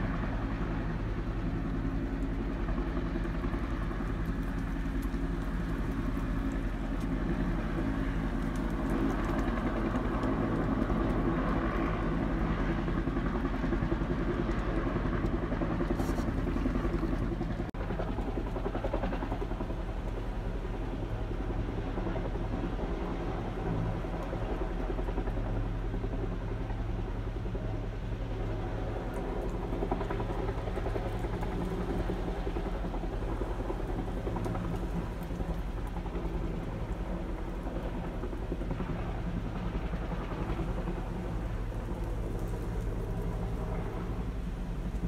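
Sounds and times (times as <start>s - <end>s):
helicopter rotor drone: 0.0s - 45.0s.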